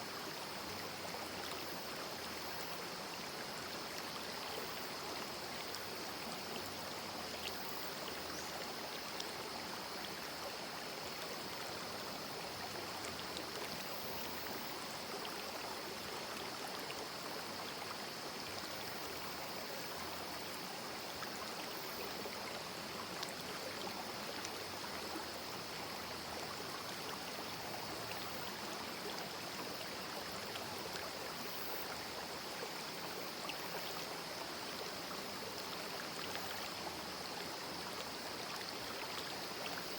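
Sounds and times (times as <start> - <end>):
stream babbling over rocks: 0.2 - 39.9.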